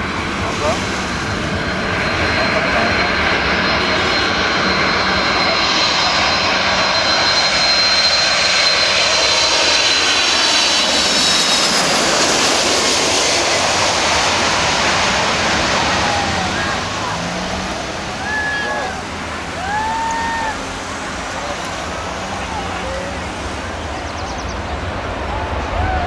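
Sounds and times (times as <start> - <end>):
high turbine whine: 0.0 - 26.0
jet engines roaring: 0.0 - 26.0.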